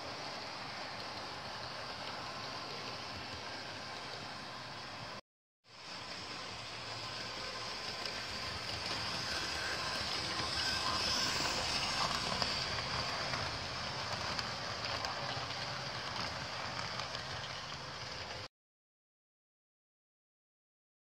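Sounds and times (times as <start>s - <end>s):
model train whirring: 0.0s - 18.5s.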